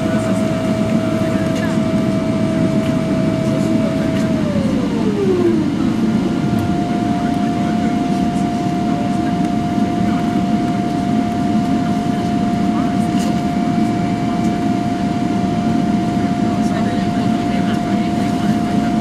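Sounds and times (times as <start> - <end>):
engine whine gliding in pitch: 0.0 - 19.0
jet engines rumbling: 0.0 - 19.0.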